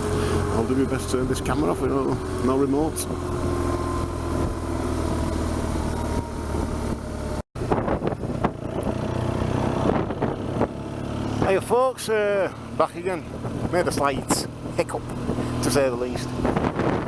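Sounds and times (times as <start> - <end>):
wind rush: 0.0 - 11.6, 13.0 - 17.0
motorcycle engine running: 0.0 - 17.0.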